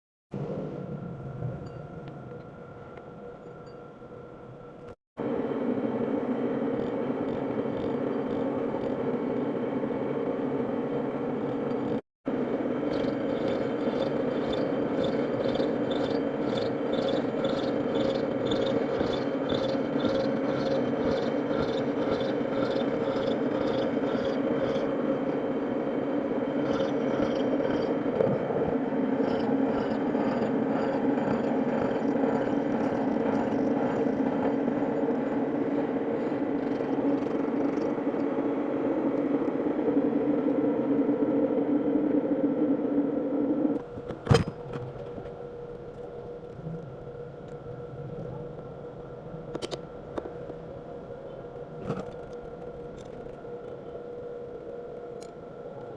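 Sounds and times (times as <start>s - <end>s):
milling machine humming: 0.4s - 55.9s.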